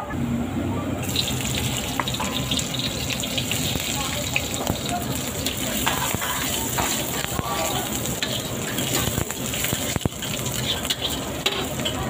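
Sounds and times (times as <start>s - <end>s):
food sizzling in hot oil: 1.0s - 12.0s
metal spatula scraping wok: 1.1s - 12.0s.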